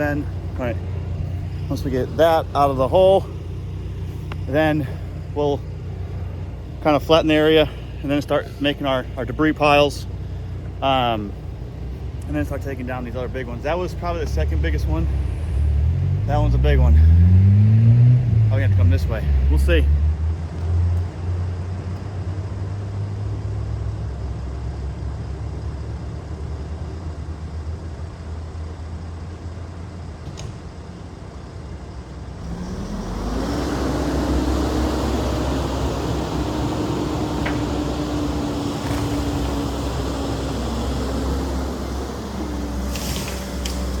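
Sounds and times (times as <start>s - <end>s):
excavator diesel engine revving: 0.0s - 24.0s, 32.3s - 44.0s.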